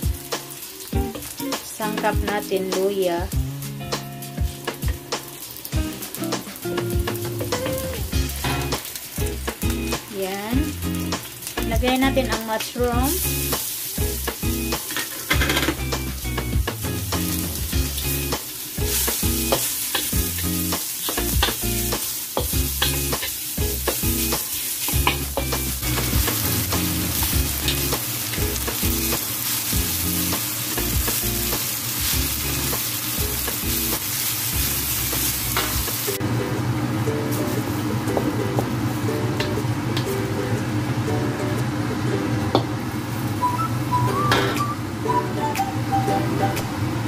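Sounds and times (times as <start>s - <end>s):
vegetables sizzling in a wok: 0.0s - 47.0s.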